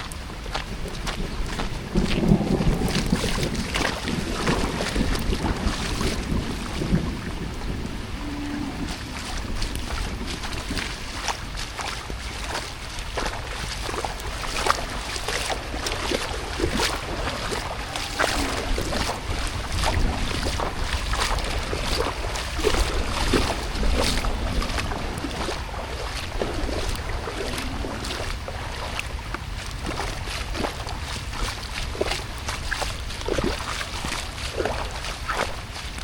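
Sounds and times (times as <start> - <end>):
rain: 0.0 - 36.0
sharp drips and splashes: 0.0 - 36.0
wind rumbling on microphone: 0.0 - 36.0.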